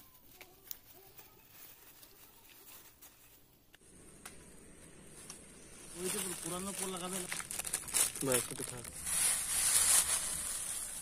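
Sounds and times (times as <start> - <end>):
plastic bag rustling: 0.1 - 3.6, 5.1 - 11.0.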